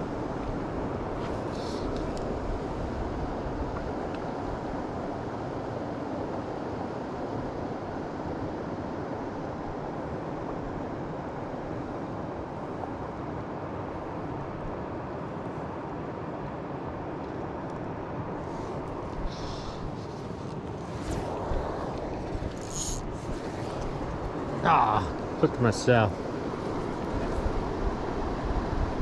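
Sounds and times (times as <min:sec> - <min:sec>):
river water flowing over rocks: 0:00.0 - 0:29.0.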